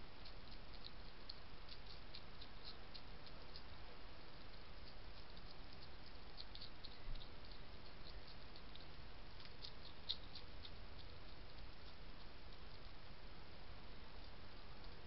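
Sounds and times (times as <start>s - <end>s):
hedgehog crunching dry food: 0.0s - 13.2s
background hiss: 0.0s - 15.0s.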